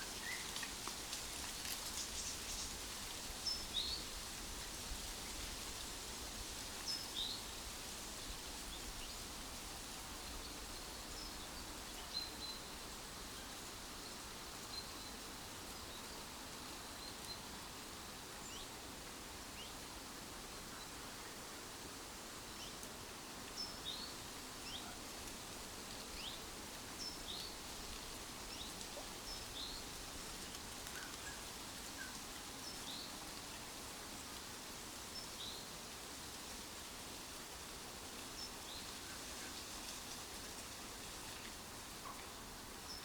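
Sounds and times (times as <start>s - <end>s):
leaves rustling in trees: 0.0s - 43.0s.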